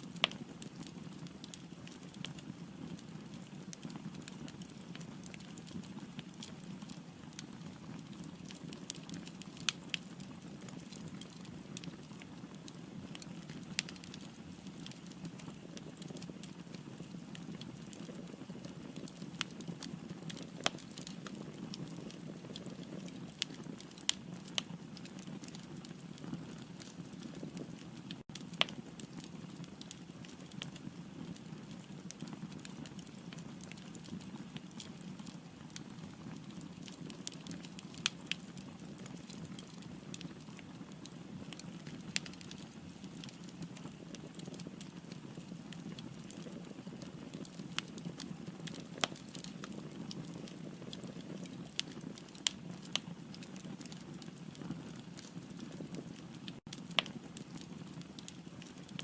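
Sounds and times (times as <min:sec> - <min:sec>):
firewood burning and crackling: 0:00.0 - 0:59.0.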